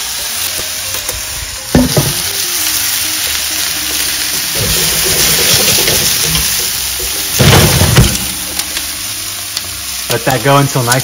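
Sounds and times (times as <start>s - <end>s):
vegetables sizzling on tray: 0.0s - 11.0s.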